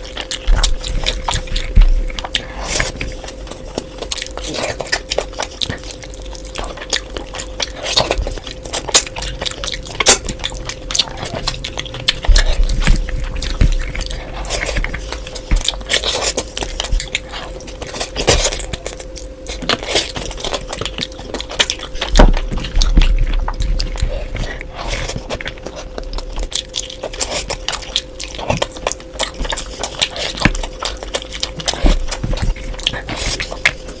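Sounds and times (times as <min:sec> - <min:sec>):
faint steady hum: 0:00.0 - 0:34.0
wet chewing and smacking: 0:00.0 - 0:34.0.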